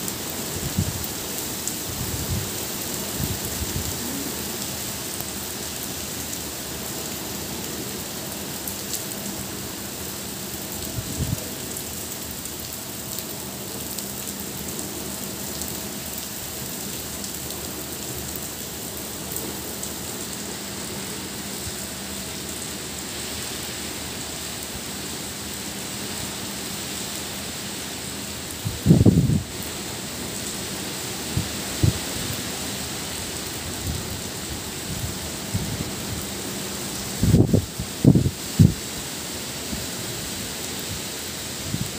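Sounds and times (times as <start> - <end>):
heavy rain on foliage and water: 0.0 - 41.9.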